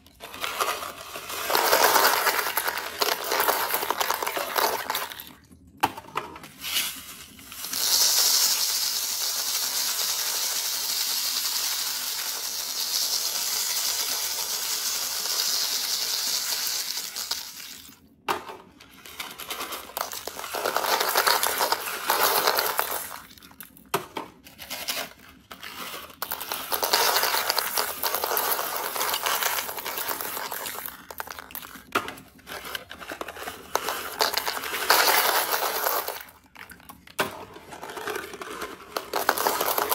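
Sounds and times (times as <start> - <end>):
candies rattling onto plastic balls: 0.0 - 6.0, 7.3 - 18.0, 18.6 - 39.9.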